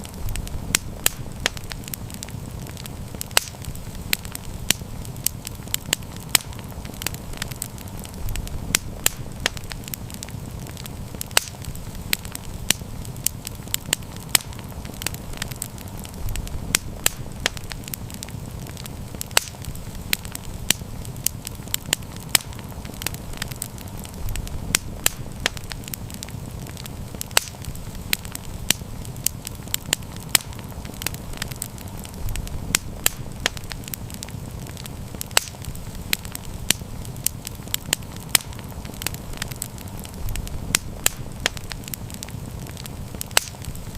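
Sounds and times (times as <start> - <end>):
campfire crackling and popping: 0.0 - 43.9
low rumble of flames: 0.0 - 43.9.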